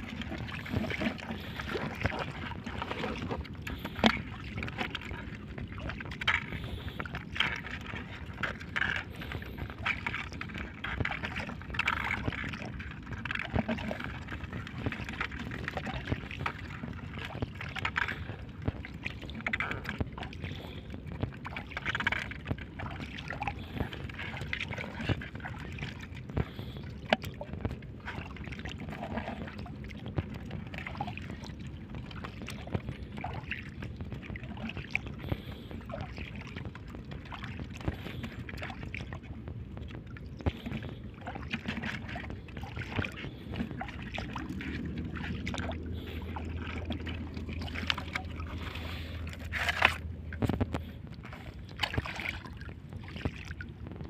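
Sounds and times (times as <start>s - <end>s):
seawater sloshing and splashing: 0.0s - 54.0s.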